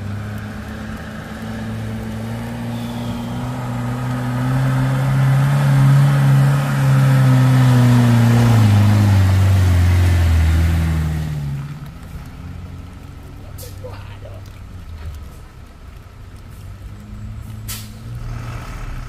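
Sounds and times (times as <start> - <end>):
pickup truck driving past: 0.0 - 14.3, 16.5 - 19.0.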